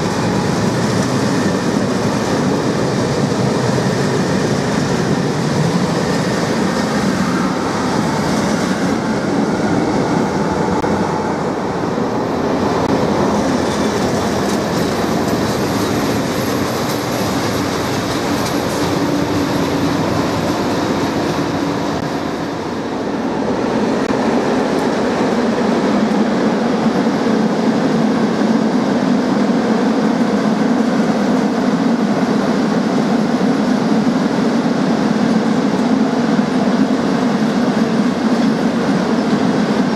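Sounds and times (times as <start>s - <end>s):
freight train passing: 0.0s - 39.9s
passenger train passing: 0.0s - 39.9s.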